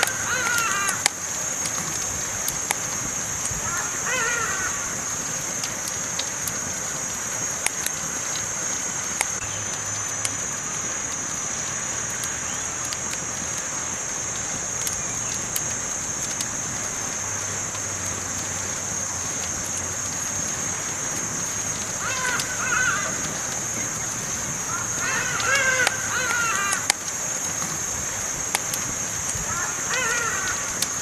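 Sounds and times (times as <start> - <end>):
campfire hissing: 0.0 - 31.0
fire crackles and pops: 0.0 - 31.0
high-pitched hiss: 0.0 - 31.0.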